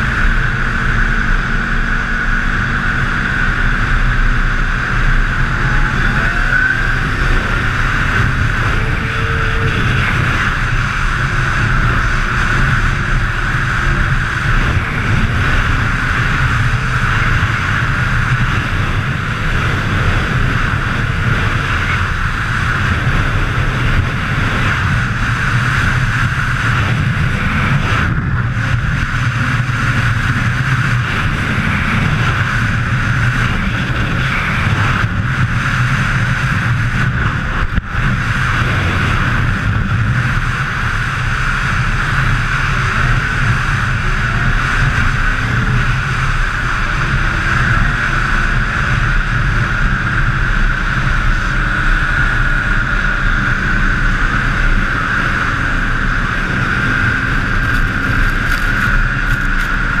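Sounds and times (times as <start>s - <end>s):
snowmobile engine running: 0.0s - 60.0s.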